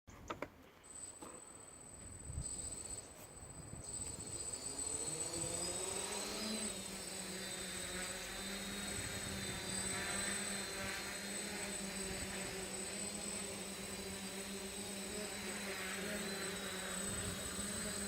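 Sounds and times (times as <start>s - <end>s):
drone propellers buzzing: 0.8s - 18.0s.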